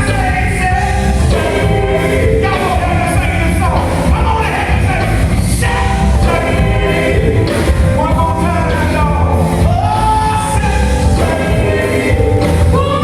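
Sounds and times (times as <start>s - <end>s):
gospel band with heavy bass: 0.0s - 13.0s.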